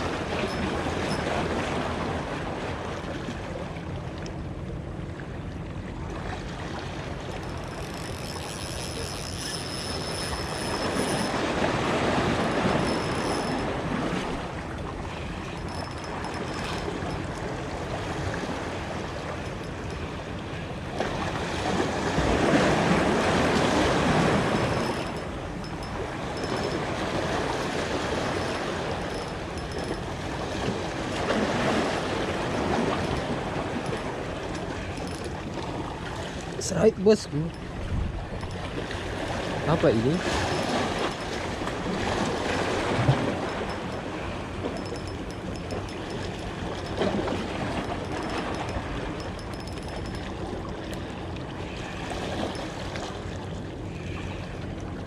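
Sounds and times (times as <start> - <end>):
sea waves washing in: 0.0 - 4.0, 5.7 - 55.0
wind: 0.0 - 55.0.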